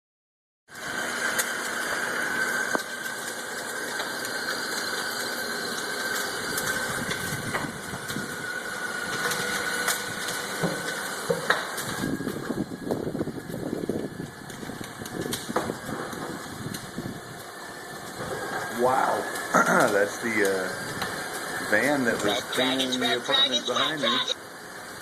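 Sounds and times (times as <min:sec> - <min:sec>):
thin steady whine: 0:00.8 - 0:25.0
vehicle fire rushing: 0:04.7 - 0:25.0.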